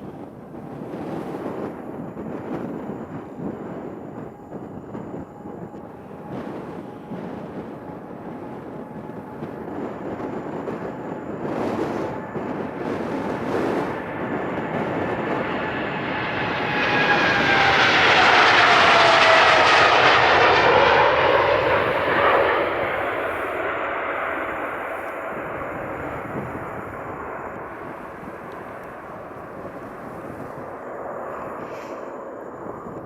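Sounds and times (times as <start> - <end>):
jet airliner engines roaring: 0.0 - 33.0.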